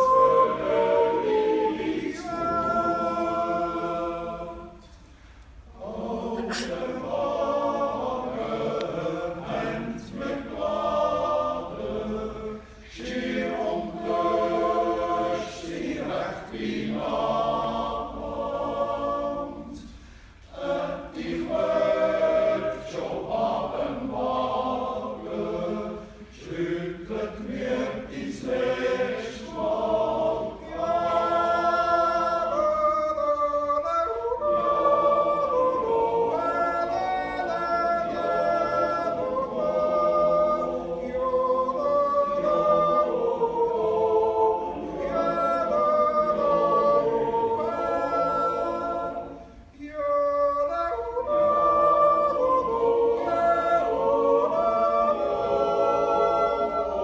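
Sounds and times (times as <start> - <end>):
men's choir yodeling a cappella: 0.0 - 4.8, 5.8 - 57.0.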